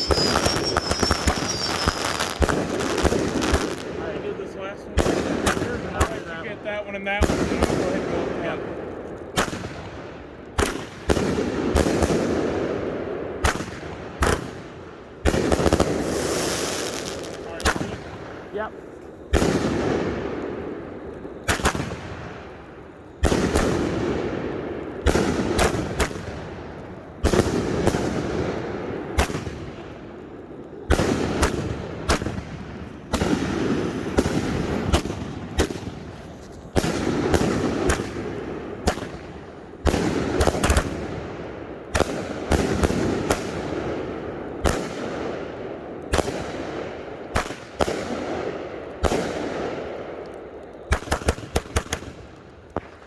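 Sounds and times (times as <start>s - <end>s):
firework shots with rumble: 0.0s - 53.0s.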